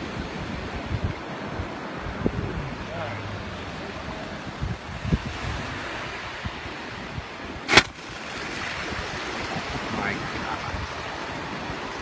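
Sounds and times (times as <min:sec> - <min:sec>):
surf: 0:00.0 - 0:12.0
wind buffeting microphone: 0:00.0 - 0:12.0.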